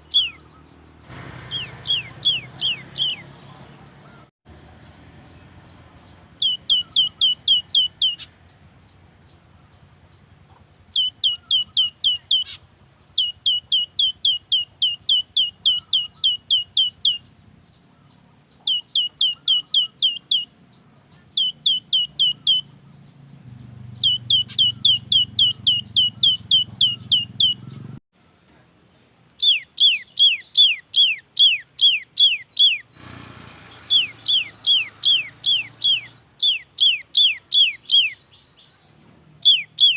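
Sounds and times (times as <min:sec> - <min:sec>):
bird singing whistled notes: 0:00.0 - 0:00.8, 0:01.5 - 0:03.3, 0:04.1 - 0:09.4, 0:10.9 - 0:17.8, 0:18.5 - 0:28.0, 0:29.4 - 0:33.0, 0:33.7 - 0:39.9.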